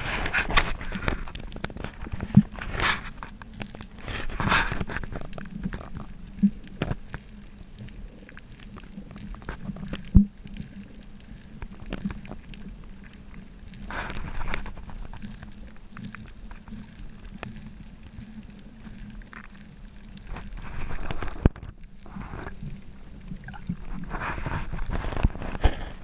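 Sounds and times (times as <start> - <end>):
faint steady hum: 0.0 - 26.0
underwater clicks and crackles: 0.0 - 26.0.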